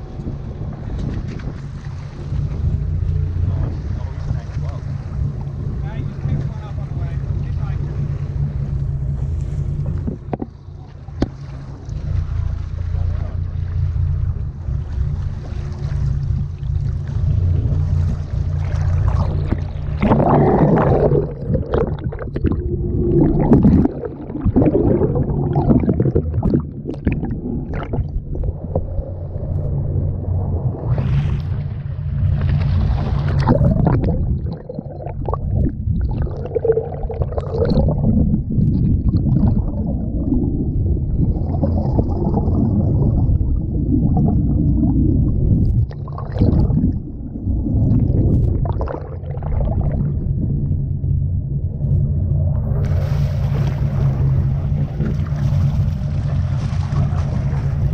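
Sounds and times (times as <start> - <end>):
boat engine drone: 0.0 - 57.9.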